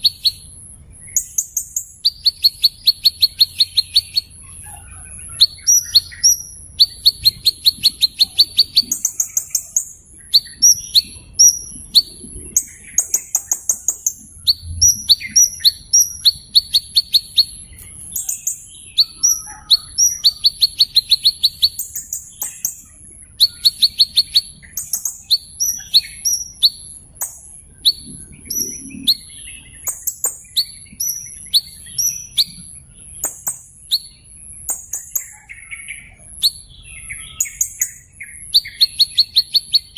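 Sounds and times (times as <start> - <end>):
small bird trilling: 0.0 - 39.9.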